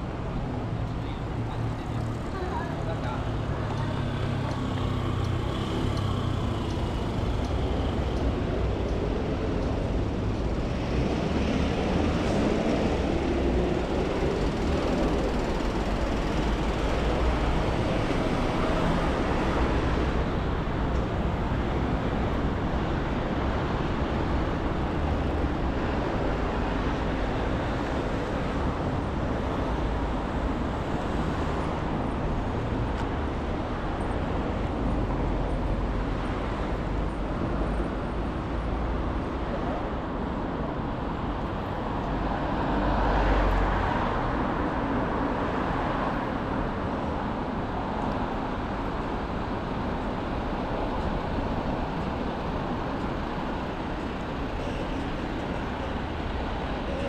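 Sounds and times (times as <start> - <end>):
vehicle engines: 0.0 - 57.0.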